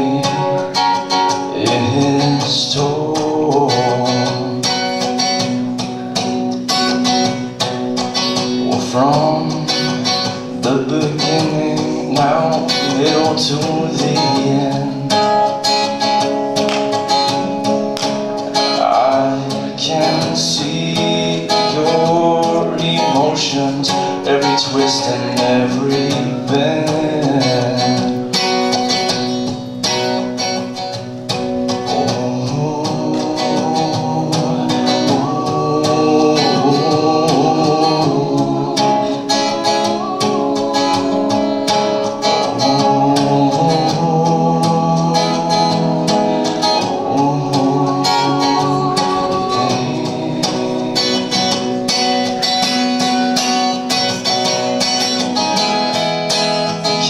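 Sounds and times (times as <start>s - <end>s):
person singing: 0.0s - 15.8s, 18.6s - 28.5s, 31.8s - 52.6s
plucked acoustic guitar: 0.0s - 57.0s.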